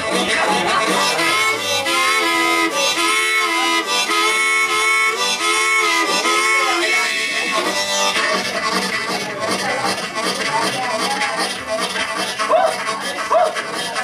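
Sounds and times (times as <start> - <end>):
blues harmonica bending notes: 0.0 - 14.0.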